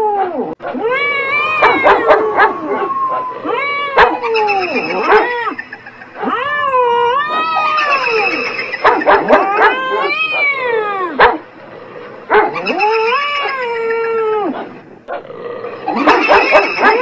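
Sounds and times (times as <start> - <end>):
cat yowling: 0.0 - 11.4, 12.4 - 14.7, 15.9 - 17.0
dog howling: 0.0 - 11.5, 12.2 - 14.8, 15.6 - 17.0.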